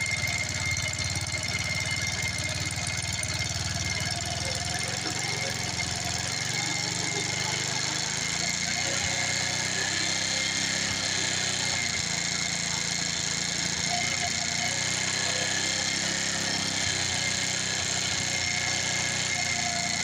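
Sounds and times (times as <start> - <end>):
scooter engine idling: 0.0 - 20.0.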